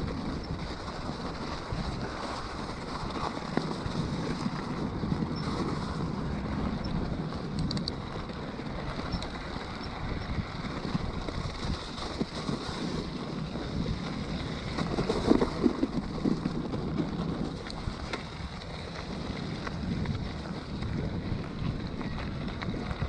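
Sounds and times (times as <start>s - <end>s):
bike tyres rolling on gravel: 0.0s - 23.0s
wind buffeting microphone: 0.0s - 23.0s.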